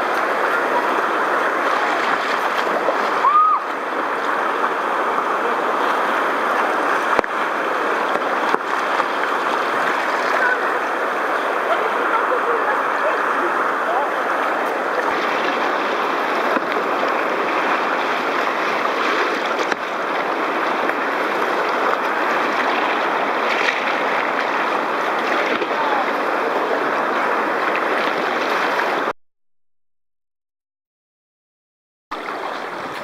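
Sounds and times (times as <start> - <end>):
whitewater rapids rushing: 0.0 - 29.1, 32.2 - 33.0.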